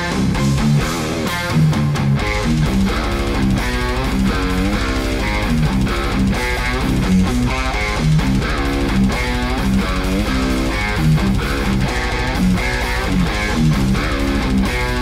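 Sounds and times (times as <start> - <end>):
strummed guitar music: 0.0 - 15.0.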